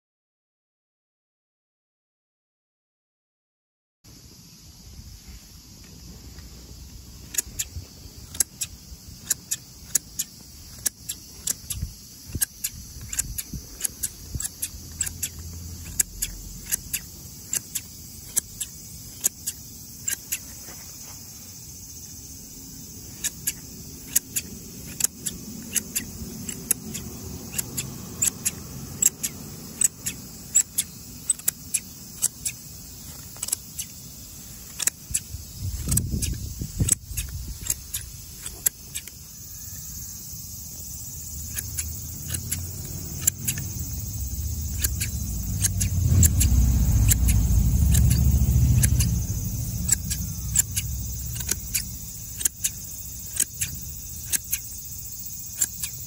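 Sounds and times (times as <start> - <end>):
shears snipping grass: 7.2 - 21.3, 22.9 - 39.3, 41.2 - 56.0.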